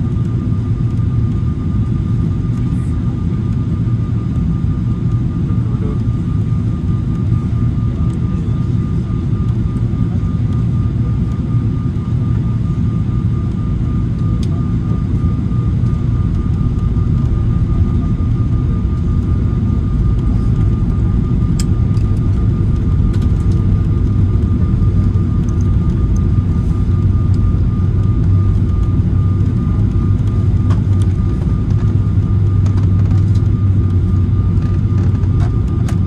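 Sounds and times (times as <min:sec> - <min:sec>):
low rumble of jet engines: 0:00.0 - 0:36.0.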